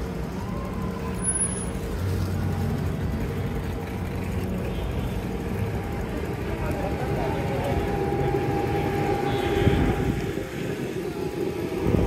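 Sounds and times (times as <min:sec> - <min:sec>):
street traffic: 0:00.0 - 0:12.0
vehicle engine humming: 0:00.0 - 0:12.0.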